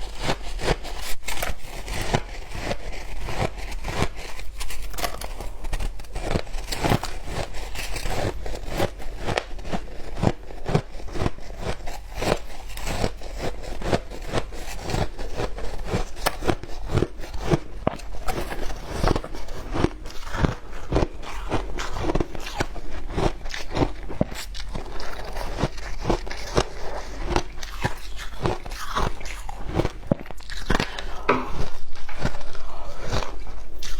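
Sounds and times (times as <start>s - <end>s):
ice being chewed: 0.0s - 33.9s.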